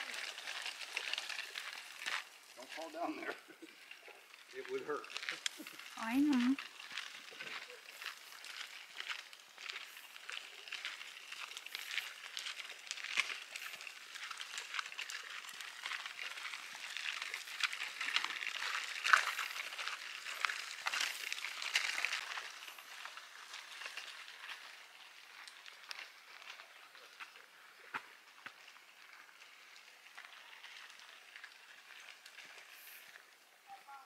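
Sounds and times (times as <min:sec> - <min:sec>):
footsteps crunching on gravel: 0:00.0 - 0:34.0.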